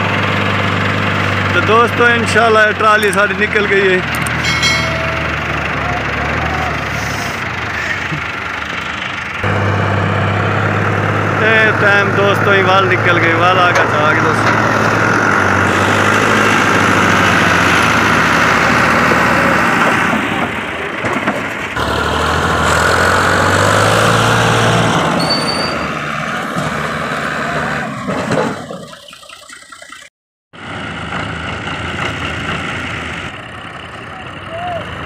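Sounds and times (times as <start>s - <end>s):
tractor diesel engine working: 0.0s - 35.0s.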